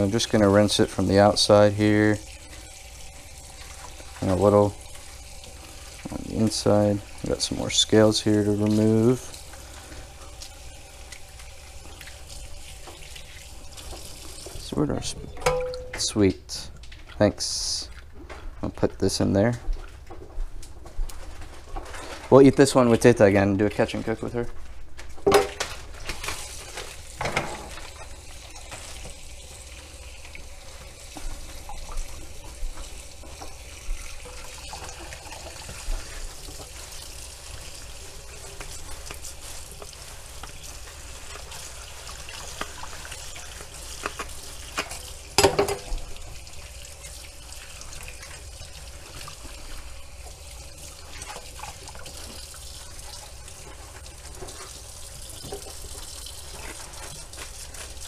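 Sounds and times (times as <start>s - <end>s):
faucet running into sink: 0.0s - 16.2s, 25.3s - 58.0s.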